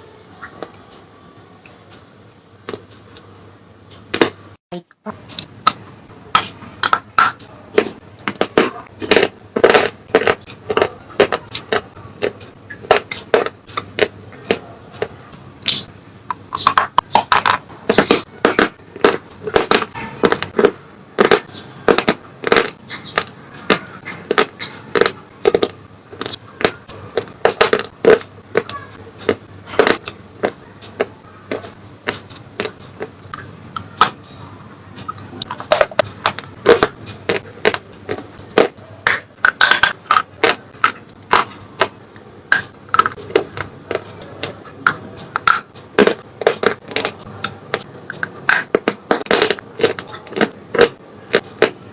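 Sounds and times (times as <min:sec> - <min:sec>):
chewing crunches: 0:06.4 - 0:34.2, 0:35.0 - 0:51.8.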